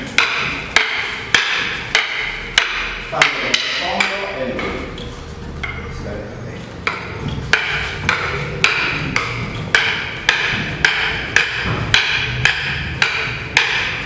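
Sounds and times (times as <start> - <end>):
wooden sticks clacking together: 0.0 - 5.9, 6.8 - 14.0.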